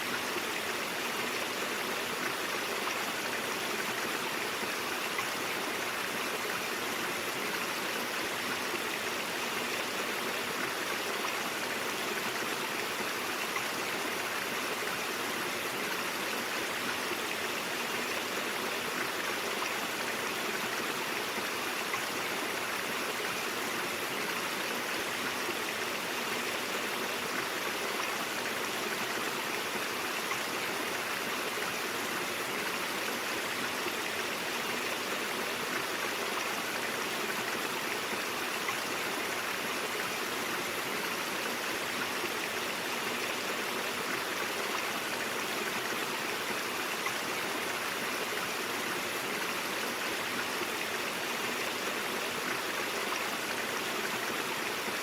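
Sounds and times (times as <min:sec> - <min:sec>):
brook water rushing over rocks: 0:00.0 - 0:55.0.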